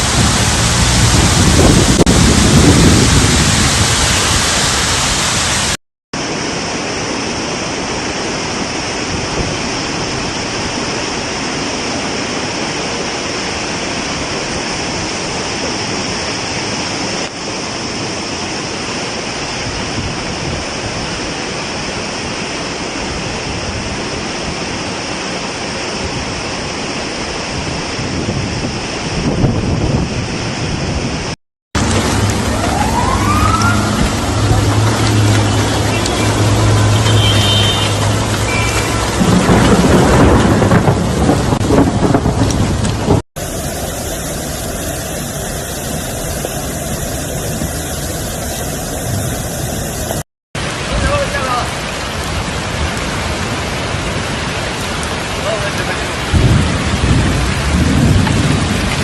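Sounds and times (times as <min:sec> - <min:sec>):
floodwater rushing and rain: 0:00.0 - 0:59.0.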